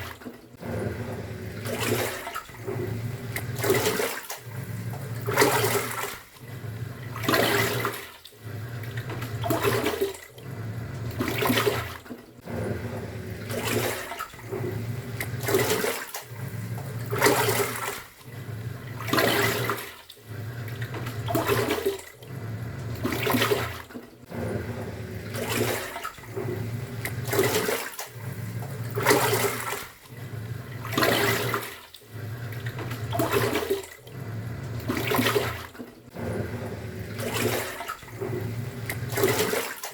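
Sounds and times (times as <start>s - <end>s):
washing machine motor humming: 0.0s - 39.9s
water sloshing: 0.0s - 39.9s.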